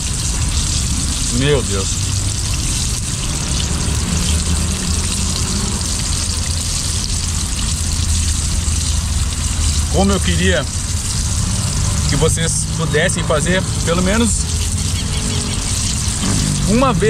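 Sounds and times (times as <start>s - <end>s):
fish sizzling in hot oil: 0.0s - 17.0s.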